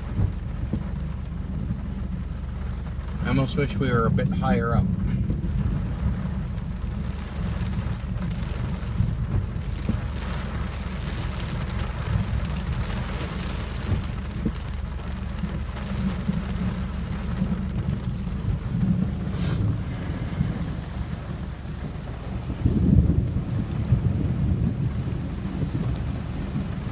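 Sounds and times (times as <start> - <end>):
low rumble of thunder: 0.0 - 26.9
rain pattering on a car: 0.0 - 26.9.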